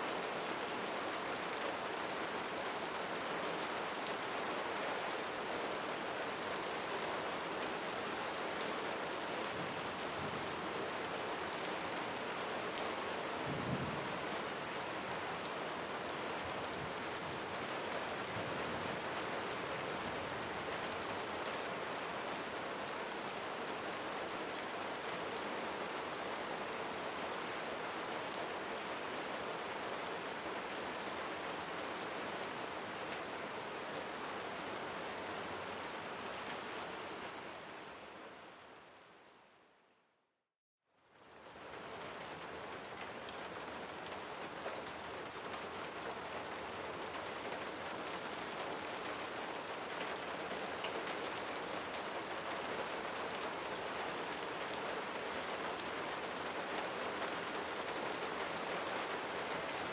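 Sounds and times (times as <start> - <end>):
rain falling on leaves: 0.0 - 39.8, 40.9 - 59.9.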